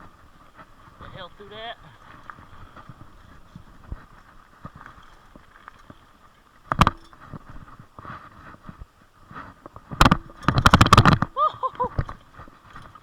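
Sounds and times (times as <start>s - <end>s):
bike frame and chain rattling: 0.0s - 8.7s, 9.3s - 13.0s.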